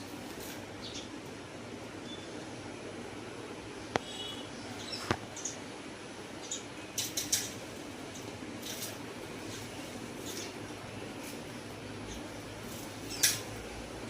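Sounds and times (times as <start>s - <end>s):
small birds chirping: 0.0s - 2.7s, 3.7s - 14.0s
steady background hum: 0.0s - 14.0s.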